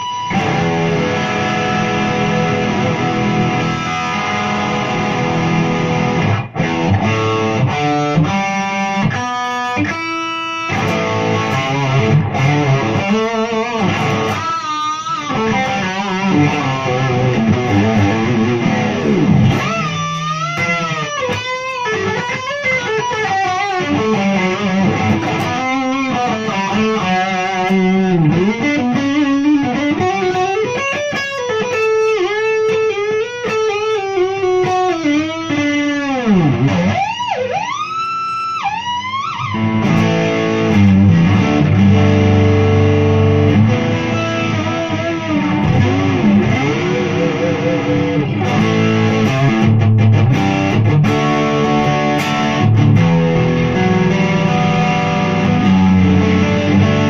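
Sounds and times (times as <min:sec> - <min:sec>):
electric guitar lead with vibrato: 0:00.0 - 0:57.0.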